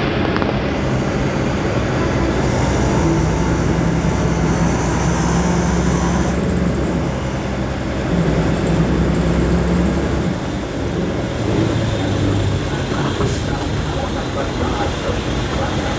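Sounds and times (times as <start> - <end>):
heavy vehicle engine droning: 0.0 - 15.9.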